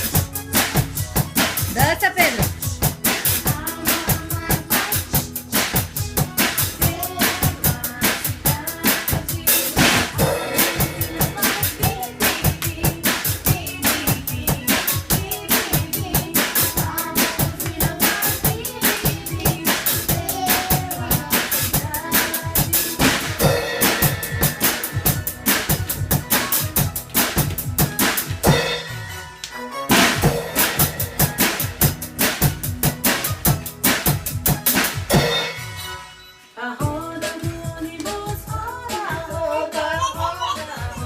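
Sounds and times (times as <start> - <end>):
drum kit fast beat: 0.0 - 29.2, 29.9 - 36.0, 36.8 - 41.0
music with pitched instruments: 0.0 - 41.0.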